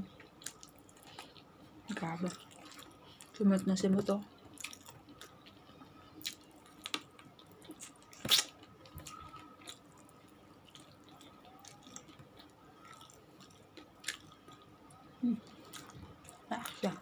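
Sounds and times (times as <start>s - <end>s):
person chewing: 0.0s - 3.4s, 4.4s - 17.0s.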